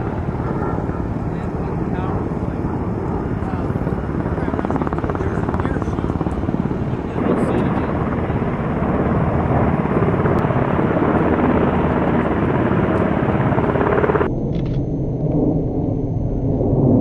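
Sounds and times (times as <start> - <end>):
jets passing overhead: 0.0 - 14.3
helicopter rotor chop: 0.0 - 15.5.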